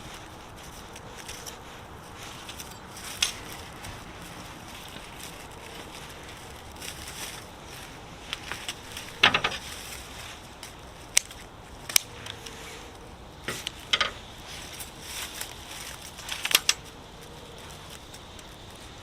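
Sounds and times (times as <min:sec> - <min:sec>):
sharp crunches and clicks: 0:00.0 - 0:12.6, 0:13.4 - 0:19.0
faint outdoor background noise: 0:00.0 - 0:19.0.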